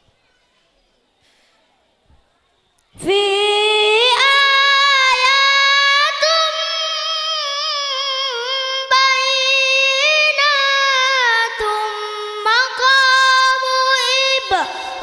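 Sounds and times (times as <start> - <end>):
boy reciting melodically: 2.9 - 15.0.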